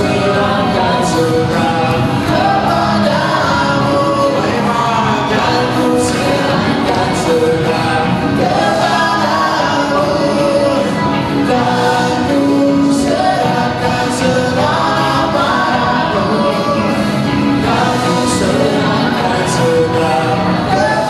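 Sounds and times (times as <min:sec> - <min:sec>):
live rock band playing: 0:00.0 - 0:21.0
person singing: 0:00.0 - 0:21.0.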